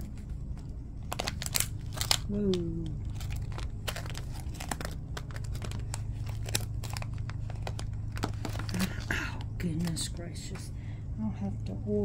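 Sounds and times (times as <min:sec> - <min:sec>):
plastic packaging crinkling: 0:00.0 - 0:10.2
steady low hum: 0:00.0 - 0:12.0.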